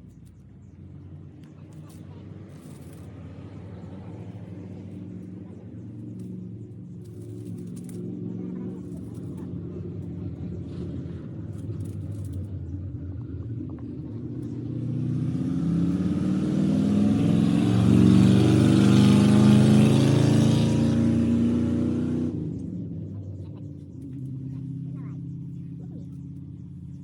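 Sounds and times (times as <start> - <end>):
vehicle engine approaching: 0.0 - 27.0.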